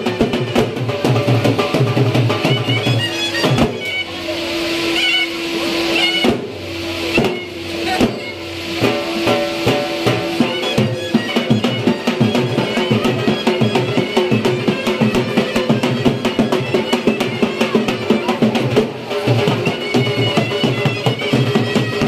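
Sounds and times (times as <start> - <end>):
barrel drum beating: 0.0 - 4.2, 5.8 - 22.0
shawm playing reedy melody: 0.0 - 22.0.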